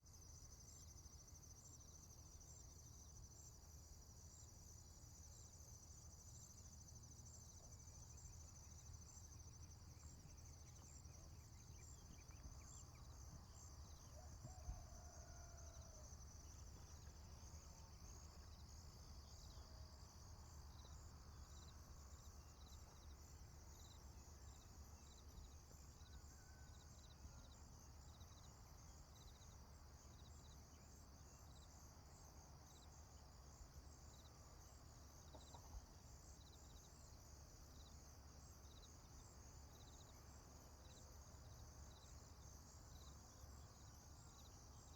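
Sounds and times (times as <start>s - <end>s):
insect chirping: 0.0s - 44.9s.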